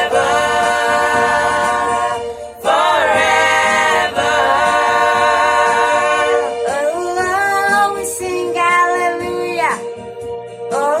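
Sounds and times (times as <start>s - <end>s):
a cappella group singing in harmony: 0.0s - 11.0s.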